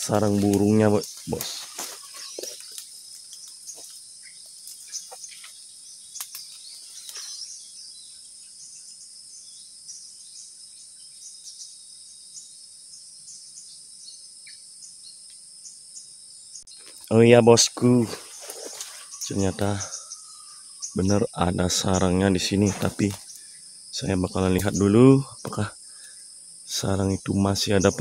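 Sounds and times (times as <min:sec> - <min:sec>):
forest insects droning: 0:00.0 - 0:28.0.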